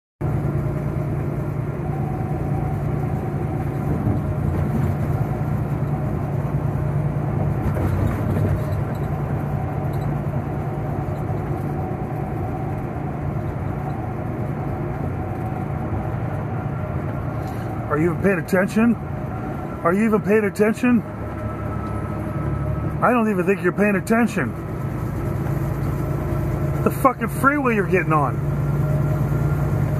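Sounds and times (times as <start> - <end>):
diesel truck engine droning: 0.2 - 29.9
road noise: 0.2 - 29.9.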